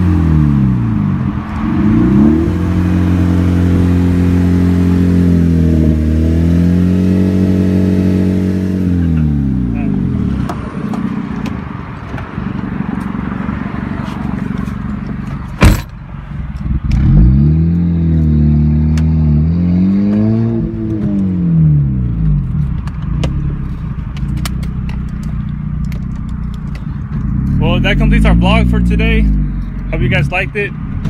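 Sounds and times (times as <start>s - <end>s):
car engine revving: 0.0s - 11.7s, 12.3s - 31.0s.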